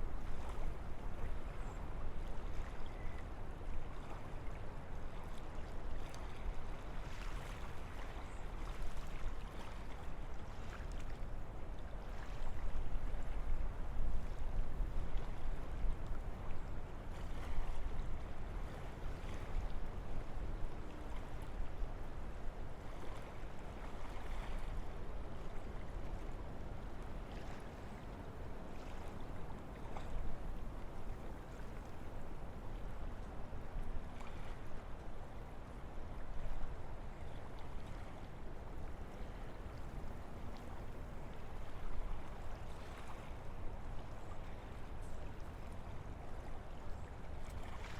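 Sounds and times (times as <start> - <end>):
wind through forest trees: 0.0 - 47.9.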